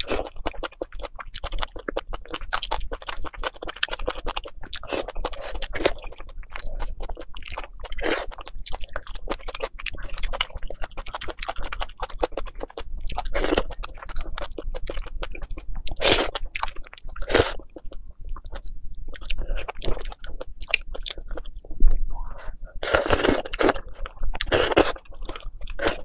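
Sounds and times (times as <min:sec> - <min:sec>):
crunching and chewing: 0:00.0 - 0:21.7, 0:22.8 - 0:26.0.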